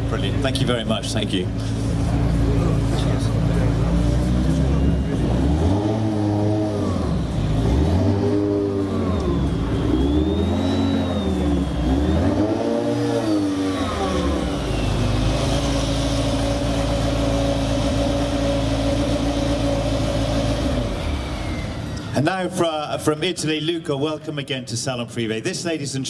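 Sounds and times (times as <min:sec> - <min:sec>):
sports car engine revving: 0:00.0 - 0:22.5.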